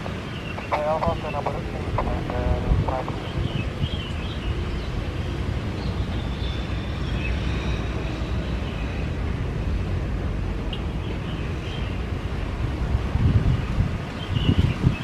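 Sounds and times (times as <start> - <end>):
jet engines rumbling: 0.0 - 14.1.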